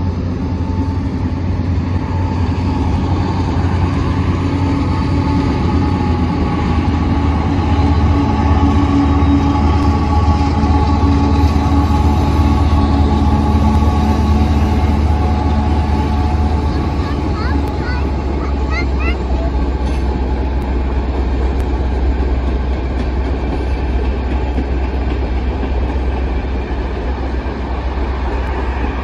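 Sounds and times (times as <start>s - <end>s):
diesel locomotive engines droning: 0.0s - 29.0s
train cars rolling on rails: 0.0s - 29.0s.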